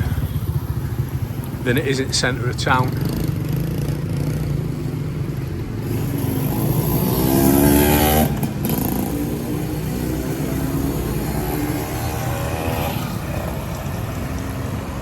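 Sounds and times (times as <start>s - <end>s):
low rumble of traffic: 0.0s - 15.0s
motorbike engine passing: 0.0s - 15.0s.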